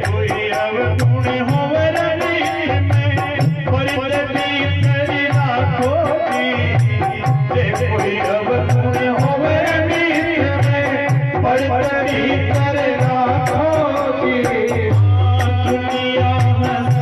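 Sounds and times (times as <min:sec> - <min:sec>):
drum beat: 0:00.0 - 0:17.0
harmonium chords: 0:00.0 - 0:17.0
man singing: 0:00.0 - 0:17.0.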